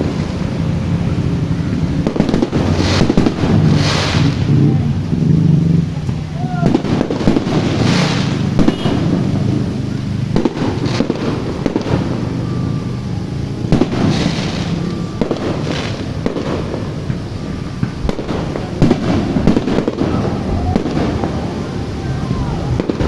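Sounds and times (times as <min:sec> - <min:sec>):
fireworks bangs: 0:00.0 - 0:23.0
fireworks hissing: 0:00.0 - 0:23.0.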